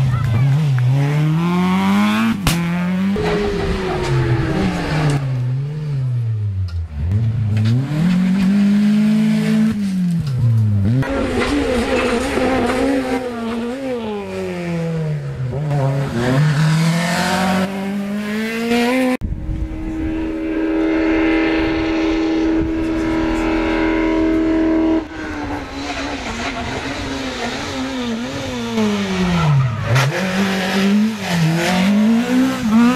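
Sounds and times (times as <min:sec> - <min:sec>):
rally car engines revving: 0:00.0 - 0:32.9.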